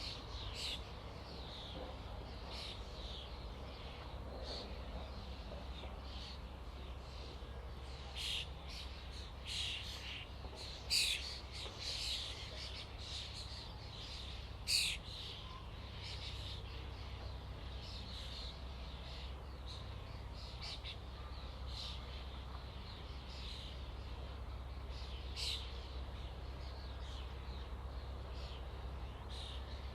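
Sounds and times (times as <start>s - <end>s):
starlings calling: 0.0s - 29.9s.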